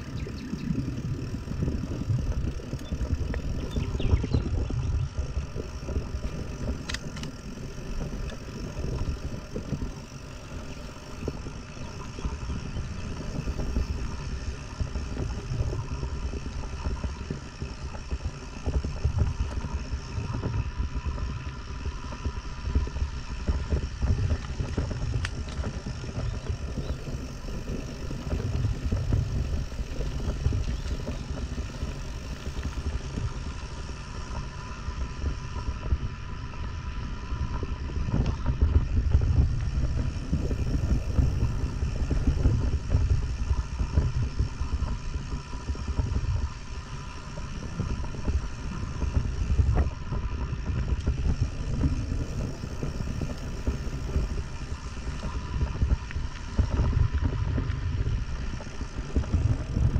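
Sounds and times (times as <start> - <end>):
tyres rumbling on dirt: 0.0 - 59.9
wind buffeting microphone: 0.0 - 59.9.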